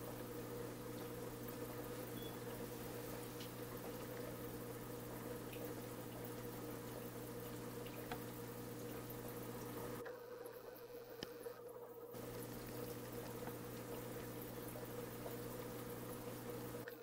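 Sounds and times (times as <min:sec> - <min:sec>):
aquarium equipment hum: 0:00.0 - 0:17.0
air bubbles bubbling and popping: 0:00.2 - 0:10.0, 0:12.2 - 0:17.0.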